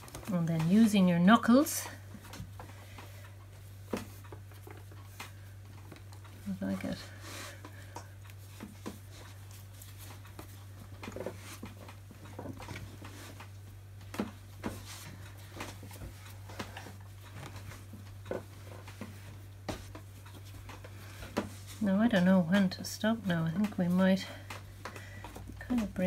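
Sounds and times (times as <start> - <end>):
dough kneaded on wooden board: 0.0 - 26.0
steady low hum: 0.0 - 26.0.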